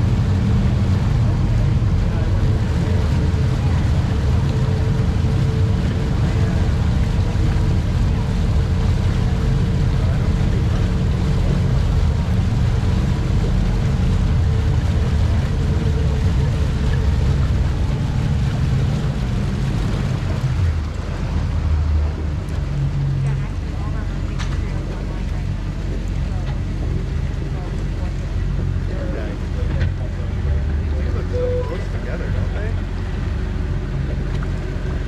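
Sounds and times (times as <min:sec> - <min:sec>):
churning prop wash: 0:00.0 - 0:35.0
outboard engines rumbling: 0:00.0 - 0:35.0.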